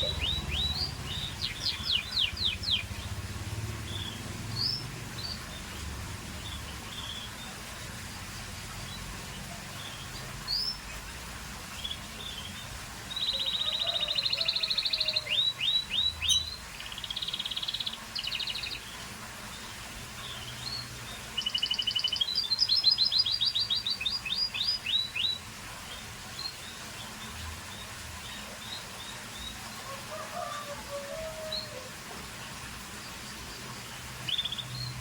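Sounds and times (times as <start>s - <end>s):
canary singing trills: 0.0s - 7.6s, 11.7s - 19.1s, 20.2s - 31.8s, 32.4s - 35.0s.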